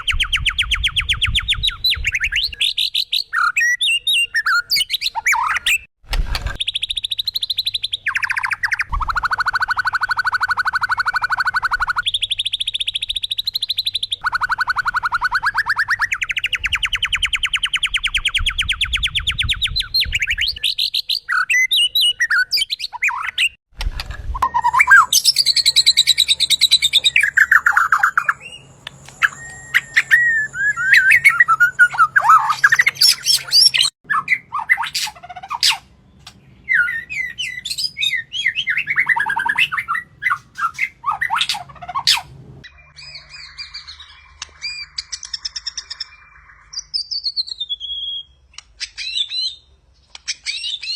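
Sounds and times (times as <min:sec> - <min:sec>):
birds singing: 0:00.0 - 0:05.9, 0:06.6 - 0:23.6, 0:24.4 - 0:50.9.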